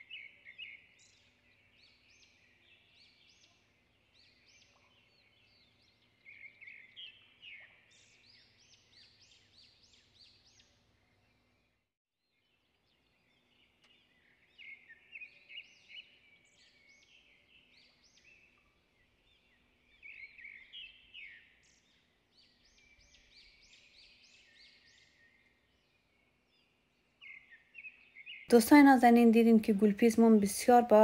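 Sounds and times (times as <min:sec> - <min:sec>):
small birds chirping and twittering: 0:00.0 - 0:31.0.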